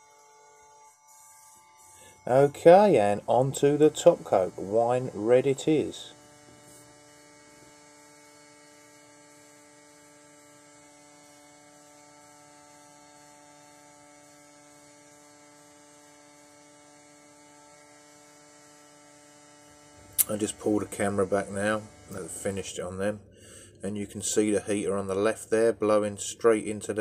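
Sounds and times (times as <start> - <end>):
electrical hum: 0.1 - 27.0.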